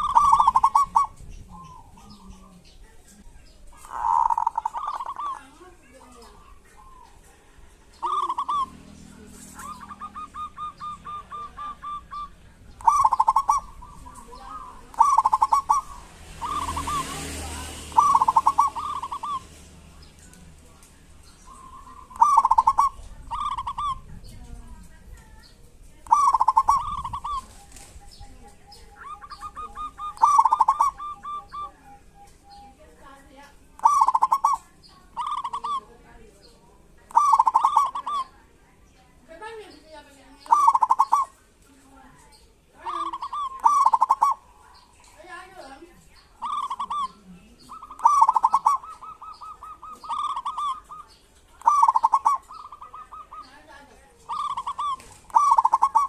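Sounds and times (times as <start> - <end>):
dove calling and trilling: 0.0 - 56.0.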